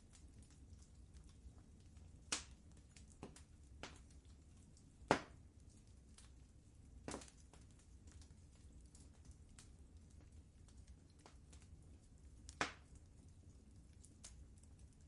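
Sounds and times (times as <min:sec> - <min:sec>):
low rumble of fire: 0:00.0 - 0:15.0
wood fire popping: 0:00.0 - 0:15.0.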